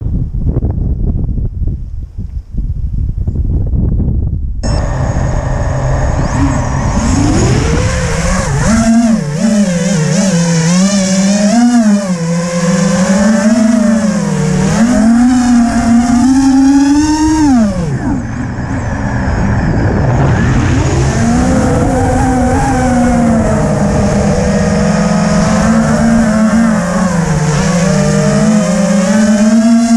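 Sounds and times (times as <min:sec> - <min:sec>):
wind rumble on microphone: 0:00.0 - 0:29.9
drone electric motors whining: 0:04.6 - 0:29.9.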